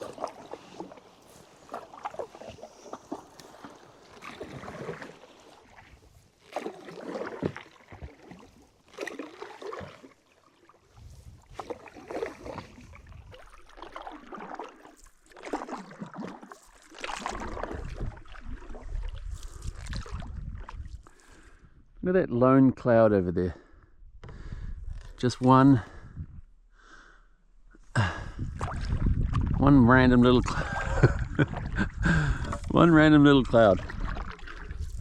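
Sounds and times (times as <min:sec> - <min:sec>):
paddle splashing in water: 0:00.0 - 0:21.6, 0:28.0 - 0:35.0.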